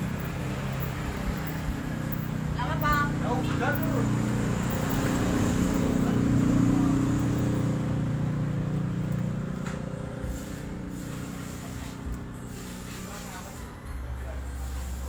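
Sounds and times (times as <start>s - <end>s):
truck engine humming: 0.0s - 15.0s.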